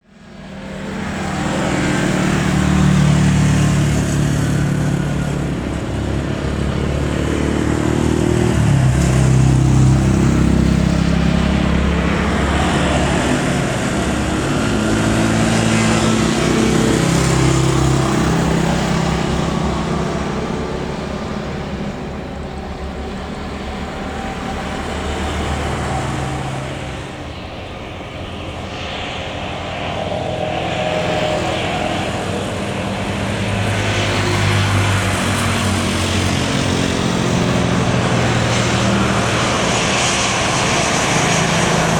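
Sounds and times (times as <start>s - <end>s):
jet airliner engine rumble: 0.0s - 41.9s.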